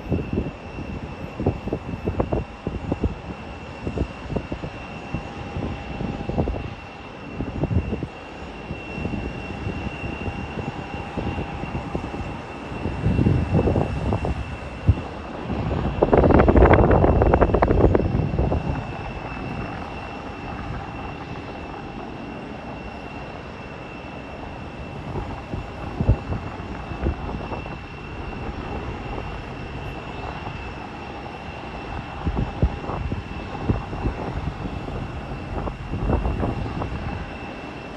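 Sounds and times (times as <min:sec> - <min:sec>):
jet engines whining: 0:00.0 - 0:37.9
wind buffeting microphone: 0:00.0 - 0:37.9.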